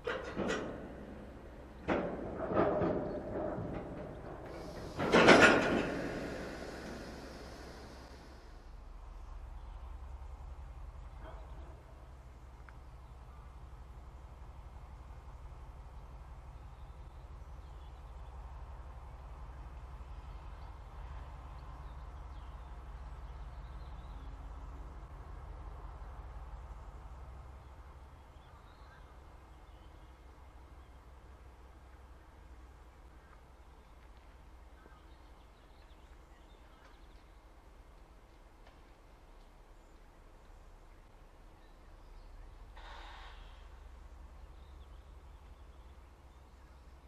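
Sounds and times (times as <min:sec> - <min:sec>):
diesel locomotive engine rumbling: 0:00.0 - 0:47.0.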